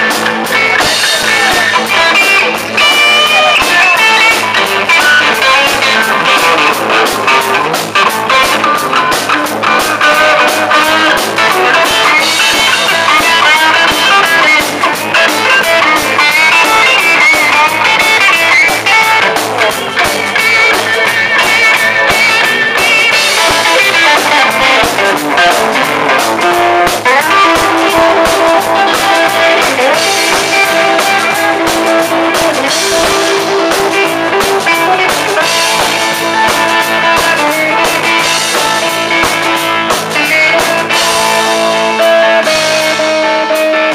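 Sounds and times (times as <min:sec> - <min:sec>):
guitar picking melodic line: 0:00.0 - 0:43.9
live rock band playing: 0:00.0 - 0:43.9.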